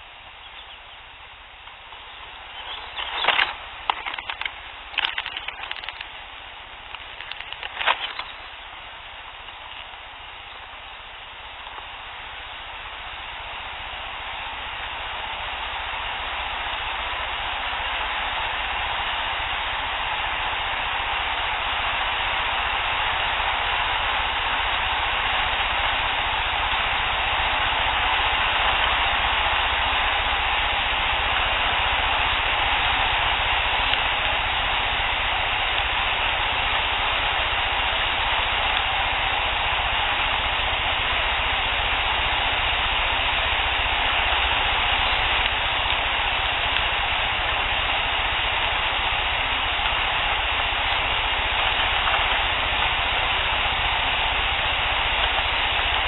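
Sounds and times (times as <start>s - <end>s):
recorder noise hiss: 0.0s - 56.0s.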